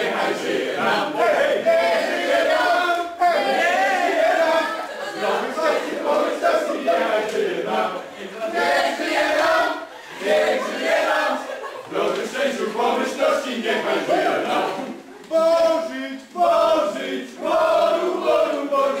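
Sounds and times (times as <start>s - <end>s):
group singing and shouting chant: 0.0s - 19.0s.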